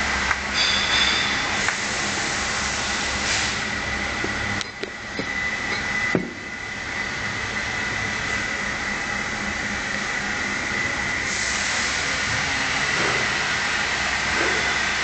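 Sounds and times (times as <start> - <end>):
machine noise with high whine: 0.0 - 15.0.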